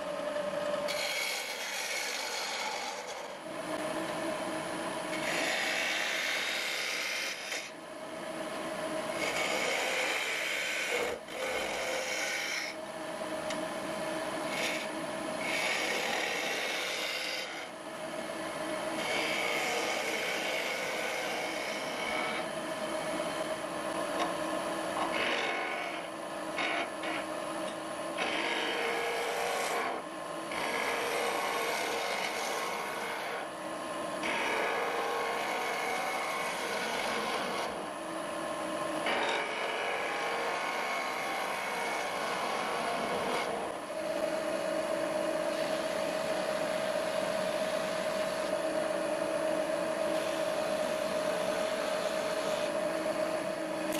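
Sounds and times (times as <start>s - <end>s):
lathe tool scraping spinning wood: 0.0s - 4.0s, 4.9s - 7.8s, 9.0s - 12.8s, 13.4s - 24.3s, 24.9s - 37.9s, 39.0s - 53.9s
lathe motor hum: 0.0s - 53.9s.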